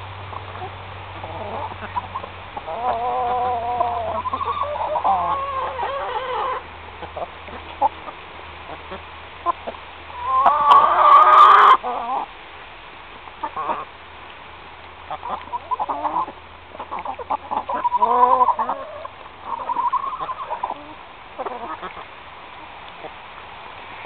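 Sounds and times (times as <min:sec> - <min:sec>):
hens clucking: 0:00.3 - 0:12.3, 0:13.4 - 0:13.9, 0:15.0 - 0:22.2.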